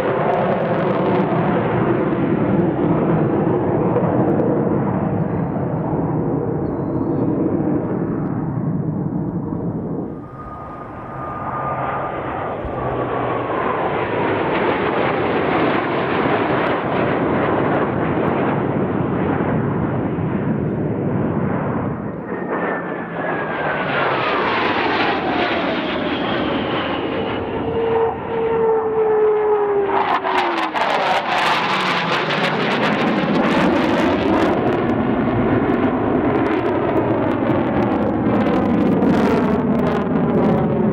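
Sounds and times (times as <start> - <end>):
jet roar: 0.0 - 40.9
jet whine falling in pitch: 0.0 - 40.9
harsh crackling jet pass: 7.2 - 40.9.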